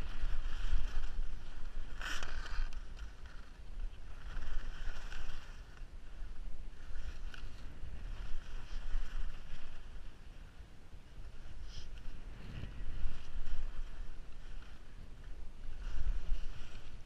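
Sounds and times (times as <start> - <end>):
skis scraping on snow: 0.0 - 17.0
wind buffeting microphone: 0.0 - 17.0.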